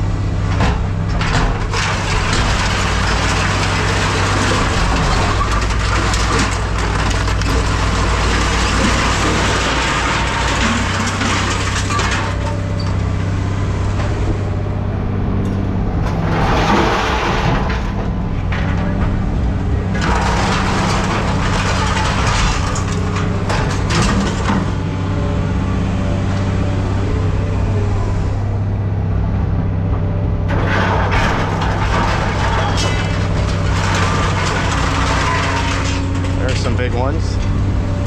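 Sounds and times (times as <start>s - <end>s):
scrap metal crunching and clattering: 0.0s - 28.8s, 29.8s - 38.0s
heavy machinery humming: 0.0s - 38.0s.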